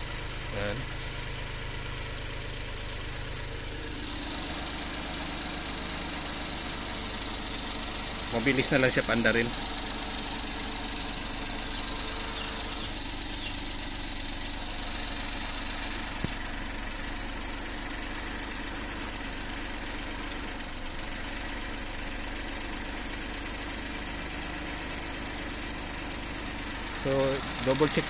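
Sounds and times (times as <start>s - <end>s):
minivan engine idling: 0.0s - 28.0s.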